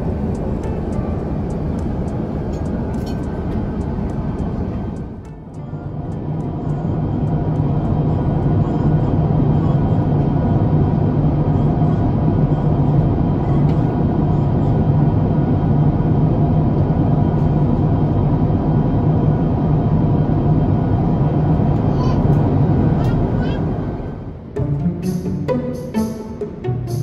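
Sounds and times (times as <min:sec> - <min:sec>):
aircraft cabin engine and airflow noise: 0:00.0 - 0:27.0
low hum: 0:00.0 - 0:27.0.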